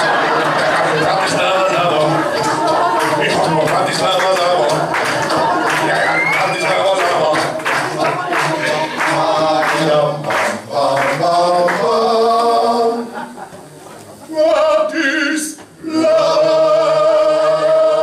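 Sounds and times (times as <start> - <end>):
men singing in harmony: 0.0 - 13.4, 14.3 - 18.0.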